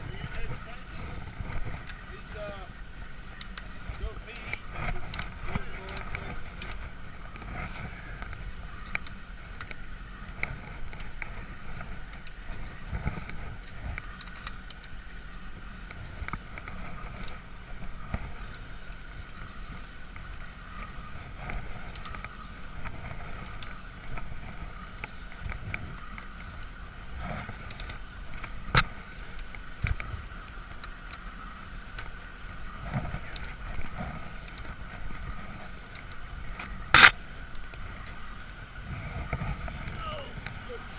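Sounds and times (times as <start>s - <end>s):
engine-like drone: 0.0s - 40.9s.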